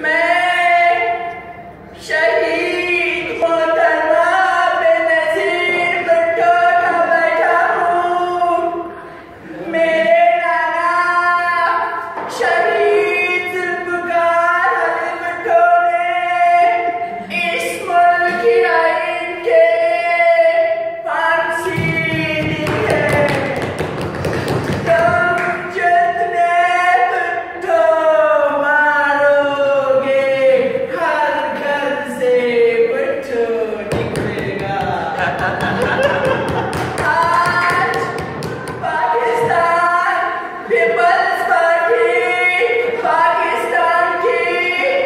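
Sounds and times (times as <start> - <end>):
high voice singing unaccompanied: 0.0 - 45.0.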